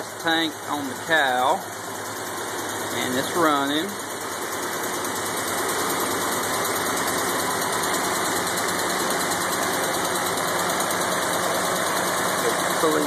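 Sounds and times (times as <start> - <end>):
jeep engine idling: 0.0 - 13.0.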